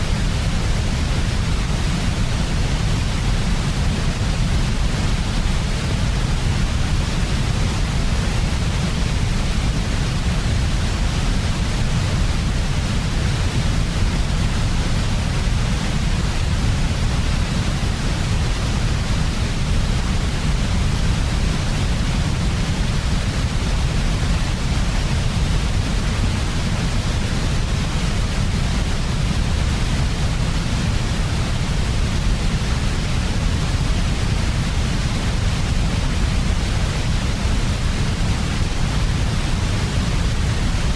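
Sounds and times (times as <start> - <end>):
steady synthetic hiss: 0.0 - 40.9.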